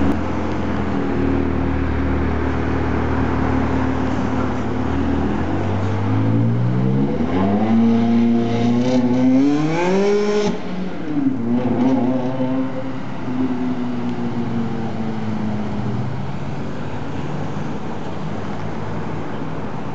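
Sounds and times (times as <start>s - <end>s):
sports car engine accelerating: 0.0s - 16.0s
traffic noise: 0.0s - 19.9s.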